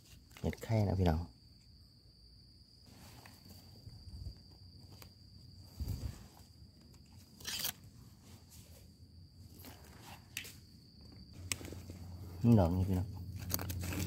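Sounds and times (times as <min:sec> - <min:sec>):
high insect trill: 0:00.0 - 0:14.0
rustle of leaves and soil: 0:02.5 - 0:14.0.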